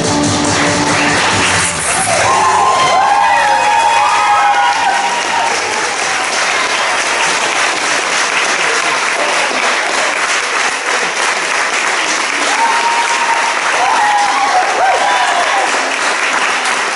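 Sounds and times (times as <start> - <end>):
audience applauding: 0.3 - 16.9.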